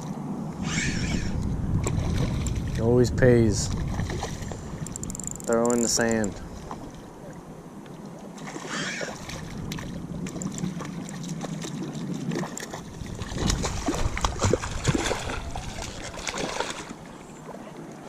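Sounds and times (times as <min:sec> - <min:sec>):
water splashing: 0:00.6 - 0:18.0.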